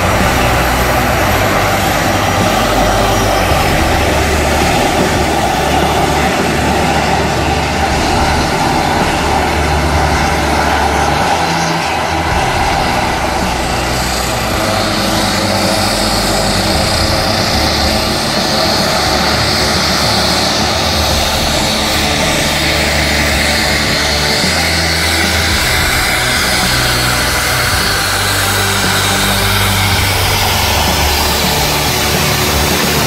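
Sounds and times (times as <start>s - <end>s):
aircraft engines running: 0.0s - 33.0s
high turbine whine: 0.0s - 33.0s.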